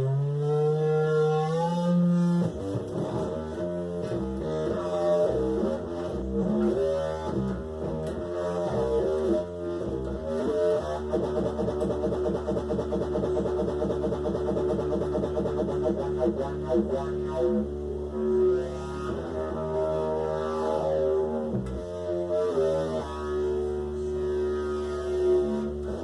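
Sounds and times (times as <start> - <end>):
electric guitar through effects pedals: 0.0 - 26.0.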